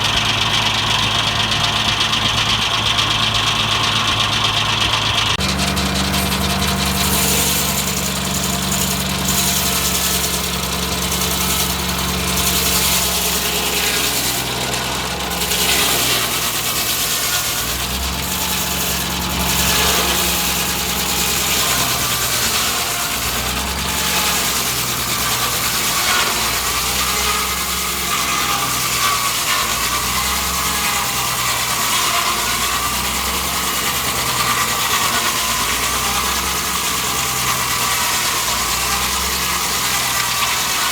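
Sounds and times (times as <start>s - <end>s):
mechanical clatter of mill: 0.0s - 40.9s
sawmill engine running: 0.0s - 40.9s
wavering whine of saw blade: 5.3s - 40.9s.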